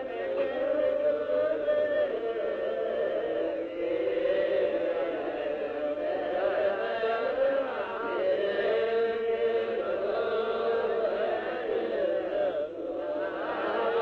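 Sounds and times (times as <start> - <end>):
group chanting a prayer: 0.0 - 14.0.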